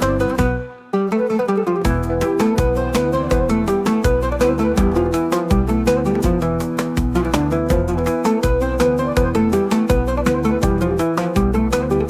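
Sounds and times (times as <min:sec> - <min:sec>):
sustained low bass line: 0:00.0 - 0:00.6, 0:01.9 - 0:11.7
sharp percussive beat: 0:00.0 - 0:00.8, 0:01.8 - 0:12.0
plucked oud notes: 0:00.0 - 0:12.0.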